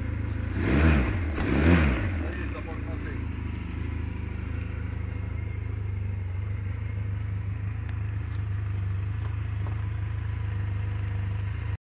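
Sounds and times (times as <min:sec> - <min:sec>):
quad engine idling: 0:00.0 - 0:11.8.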